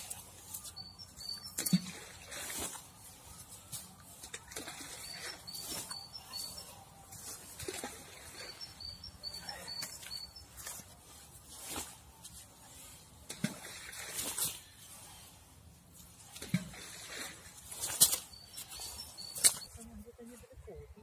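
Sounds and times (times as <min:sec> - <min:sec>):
rustling and handling noise: 0:00.0 - 0:19.9.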